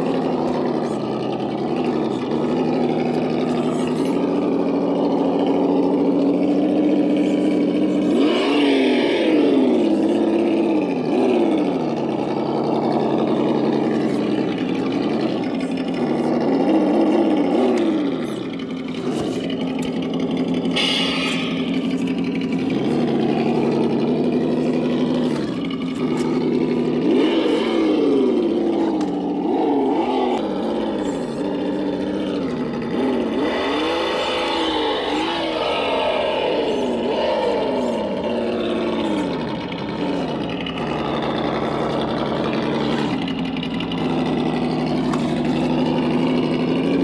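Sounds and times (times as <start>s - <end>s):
simulated engine idling and revving: 0.0s - 47.0s.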